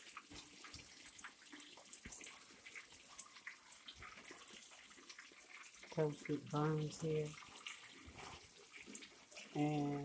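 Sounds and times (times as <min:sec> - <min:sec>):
chicken frying in hot oil: 0:00.0 - 0:10.0.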